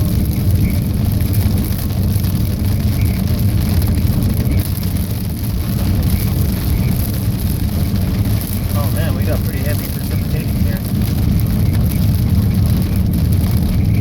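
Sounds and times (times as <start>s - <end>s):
low thunder rumble: 0.0s - 14.0s
rain pattering: 0.0s - 14.0s.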